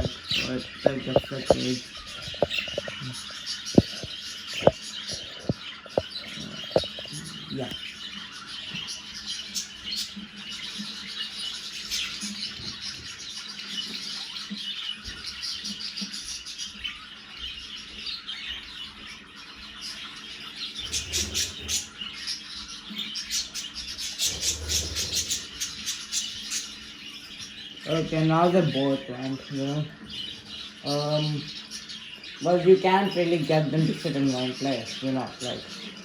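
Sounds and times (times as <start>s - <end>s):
budgerigars chattering: 0.0s - 36.0s.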